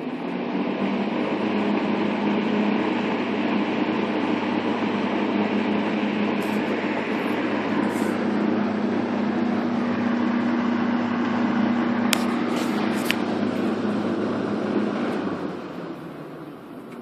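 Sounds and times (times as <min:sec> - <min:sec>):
box fan running: 0:00.0 - 0:17.0.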